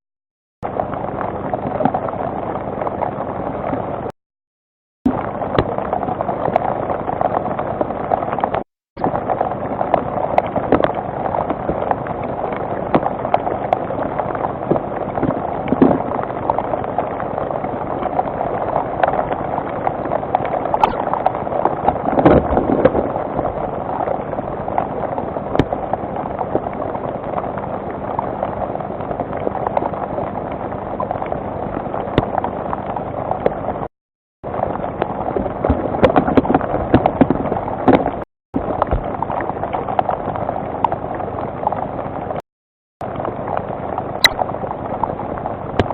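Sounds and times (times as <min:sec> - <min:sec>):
raindrops ticking: 0:05.1 - 0:33.9, 0:34.5 - 0:42.4, 0:43.0 - 0:45.9
steady rain: 0:05.1 - 0:33.9, 0:34.5 - 0:42.4, 0:43.0 - 0:45.9.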